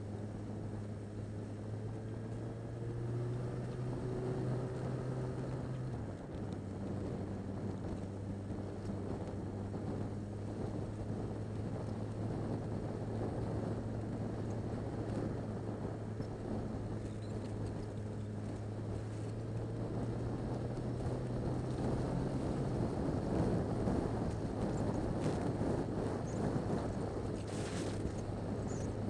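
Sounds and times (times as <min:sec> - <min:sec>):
motorcycle engine running: 0:00.0 - 0:29.0
wind rush over microphone: 0:00.0 - 0:29.0.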